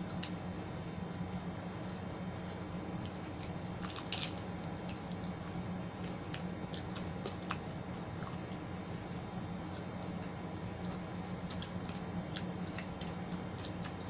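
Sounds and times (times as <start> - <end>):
steady low hum: 0.0 - 14.0
person chewing and biting food: 1.8 - 14.0.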